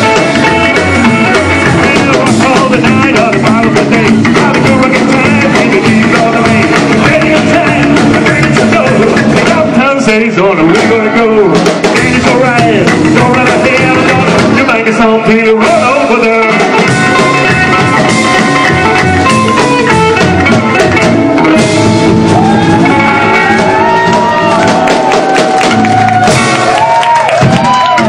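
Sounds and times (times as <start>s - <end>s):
person singing: 0.0s - 25.1s
drum kit: 0.0s - 28.0s
electric guitar: 0.0s - 28.0s.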